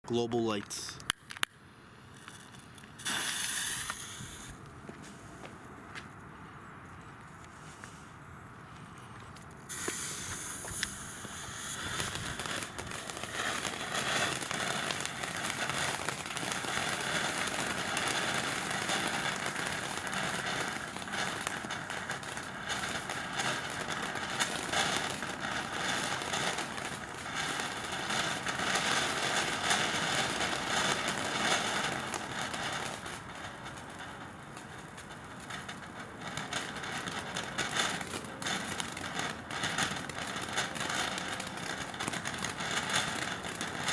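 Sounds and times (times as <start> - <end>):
firework hissing and crackling: 0.7 - 5.9, 7.5 - 43.9.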